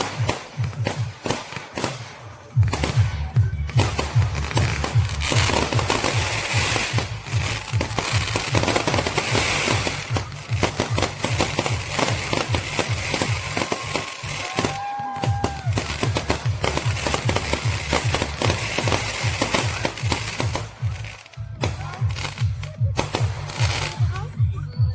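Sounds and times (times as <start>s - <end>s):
loud music with bass beat: 0.0s - 1.9s, 2.6s - 24.9s
fireworks crackling and banging: 0.0s - 24.4s.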